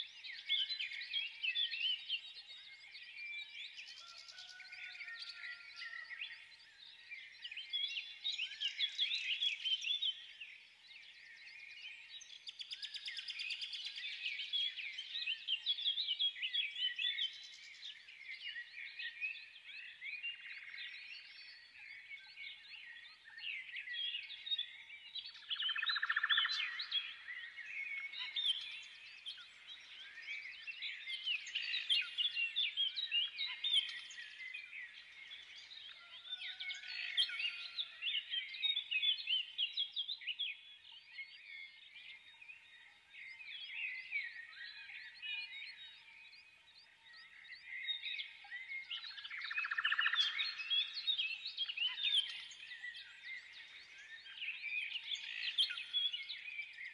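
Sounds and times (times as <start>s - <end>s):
small birds chirping: 6.3s - 56.9s.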